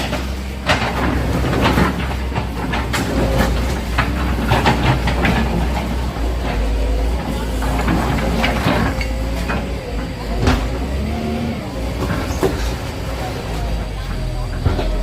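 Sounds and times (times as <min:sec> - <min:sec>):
excavator engine droning: 0:00.0 - 0:15.0
rubble knocking and clattering: 0:00.0 - 0:15.0.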